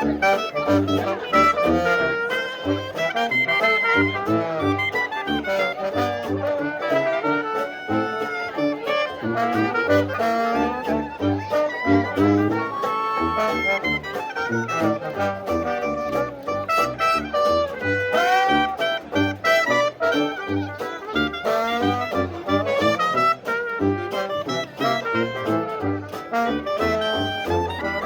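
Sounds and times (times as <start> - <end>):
brass lead lines: 0.0 - 28.0
jazz band playing: 0.0 - 28.0
tuba bass line: 0.0 - 28.0.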